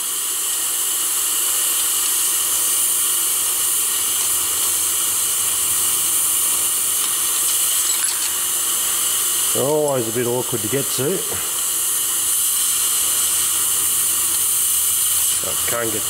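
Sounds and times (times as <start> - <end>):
compressed air hissing: 0.0 - 16.0.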